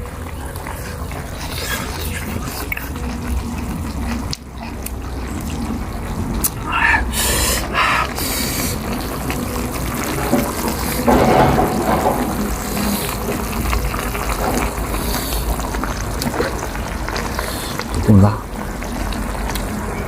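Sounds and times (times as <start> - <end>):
bubbling liquid in hotpot: 0.0 - 20.0.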